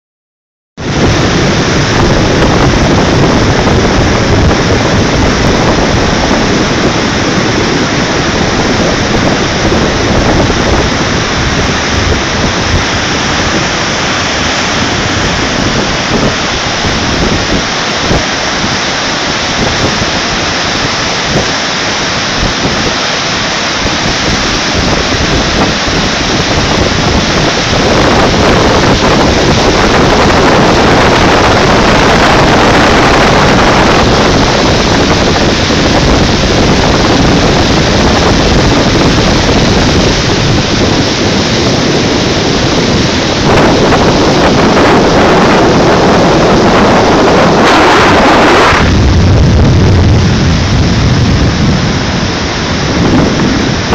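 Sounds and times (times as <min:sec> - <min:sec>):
river rapids rushing: 0:00.9 - 0:49.0.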